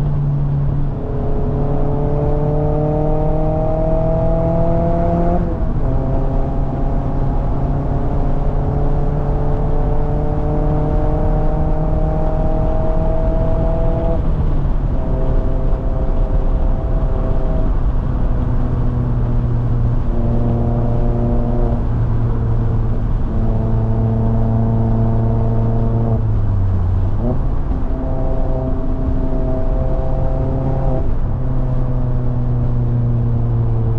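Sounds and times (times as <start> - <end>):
car engine pulling uphill: 0.0 - 33.9.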